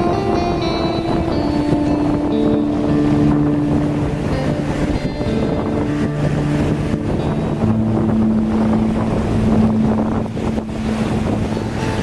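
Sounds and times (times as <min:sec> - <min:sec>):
low guitar notes: 0:00.0 - 0:12.0
surf washing over rocks: 0:00.0 - 0:12.0.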